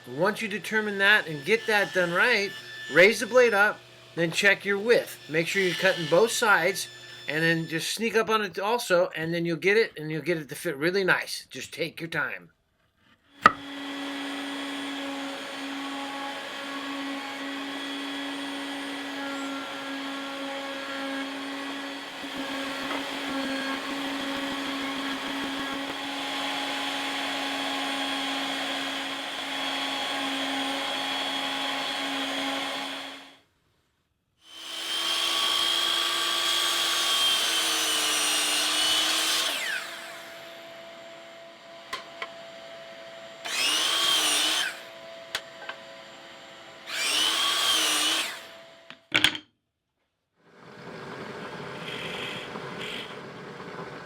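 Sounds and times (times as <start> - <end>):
power tool motor whining: 0.0 - 7.7, 13.4 - 33.3, 34.5 - 49.0, 50.6 - 54.0.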